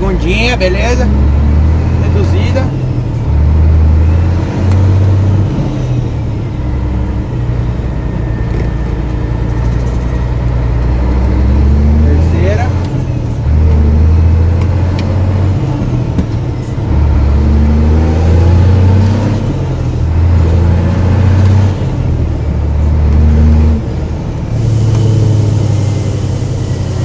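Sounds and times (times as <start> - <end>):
diesel truck engine accelerating: 0.0 - 27.0.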